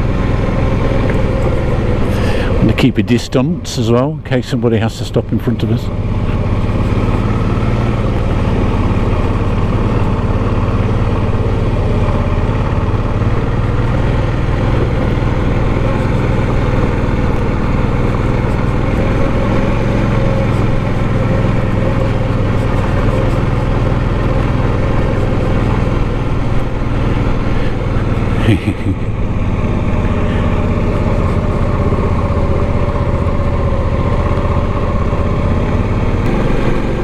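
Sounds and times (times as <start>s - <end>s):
motorcycle engine at low revs: 0.0s - 37.0s.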